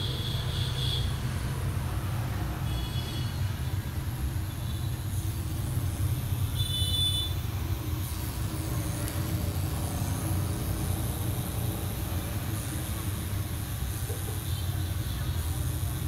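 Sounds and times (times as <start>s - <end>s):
tattoo machine humming: 0.0s - 16.0s.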